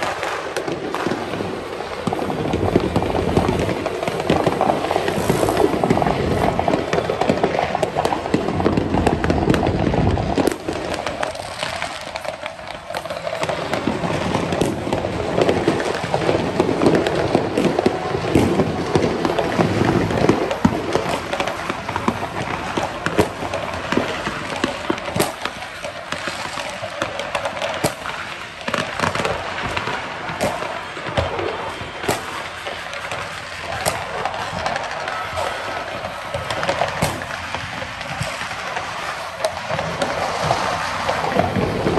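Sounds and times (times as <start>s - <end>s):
fireworks and firecrackers banging: 0.0s - 41.9s.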